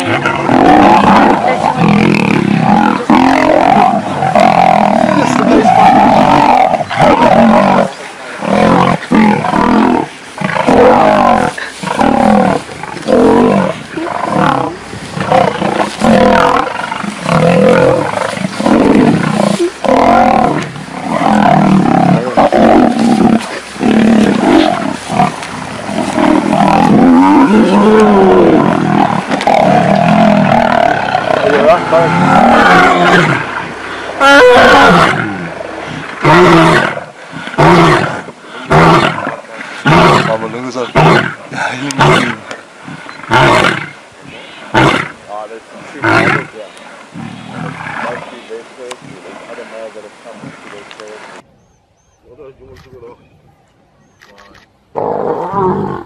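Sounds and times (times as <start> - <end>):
lions roaring and snarling: 0.0 - 51.4, 54.2 - 56.0.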